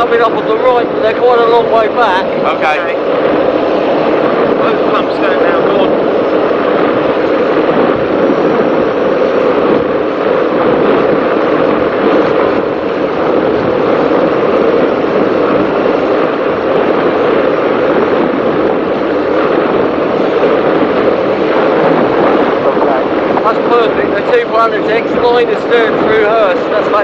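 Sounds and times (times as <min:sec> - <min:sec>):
powerboat engine and water drone: 0:00.0 - 0:27.0.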